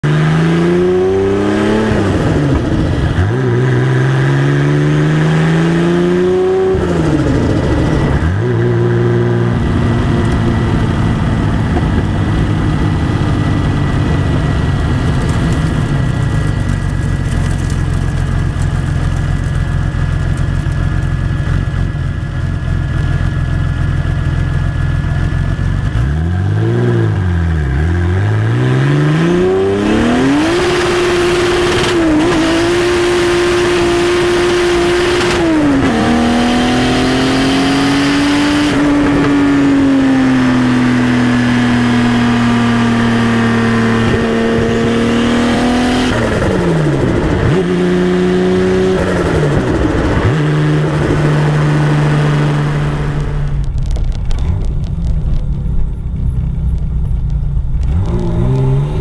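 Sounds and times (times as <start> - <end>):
car engine revving and idling: 0.0 - 59.0.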